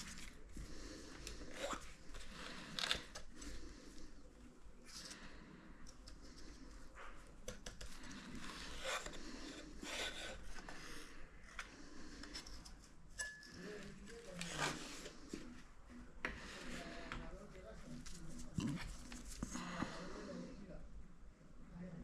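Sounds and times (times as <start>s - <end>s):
faint rubbing and scraping: 0.0s - 20.8s.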